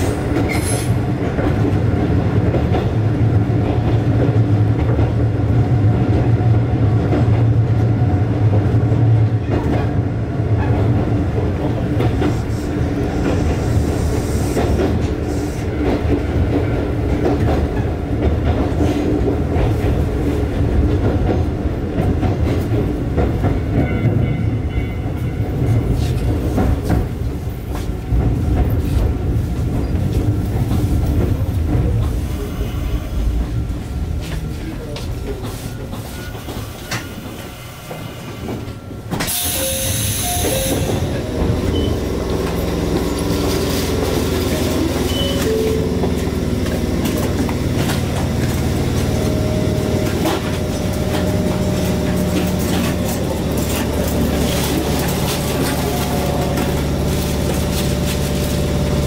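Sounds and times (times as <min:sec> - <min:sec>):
train wheels rumbling on track: 0:00.0 - 0:59.0
rail-joint clicks: 0:08.5 - 0:59.0.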